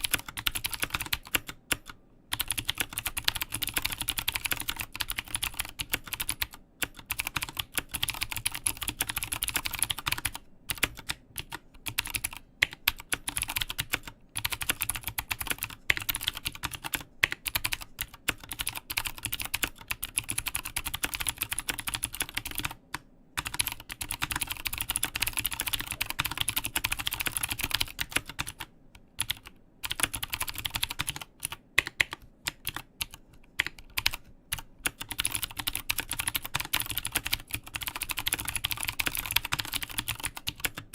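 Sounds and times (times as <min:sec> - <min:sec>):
typing on a mechanical keyboard: 0:00.0 - 0:40.9.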